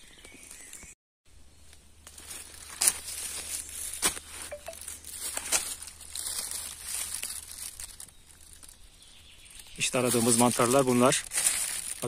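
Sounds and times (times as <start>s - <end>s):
footsteps crunching through dry leaves: 1.9s - 12.0s.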